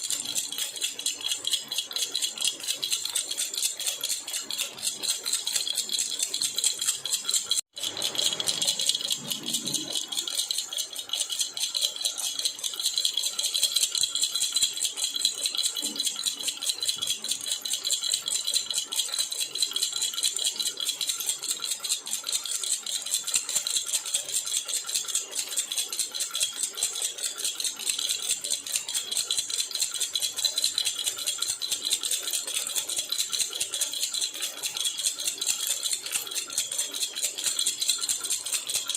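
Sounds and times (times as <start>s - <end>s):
baby rattle shaken: 0.0s - 17.4s, 19.2s - 38.9s.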